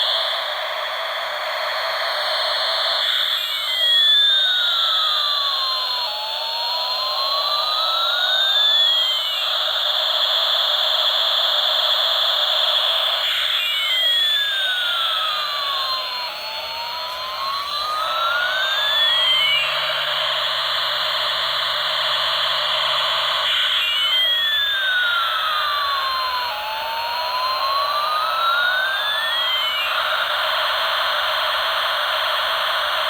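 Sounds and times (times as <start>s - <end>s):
sliding siren-like tones: 0.0s - 33.0s.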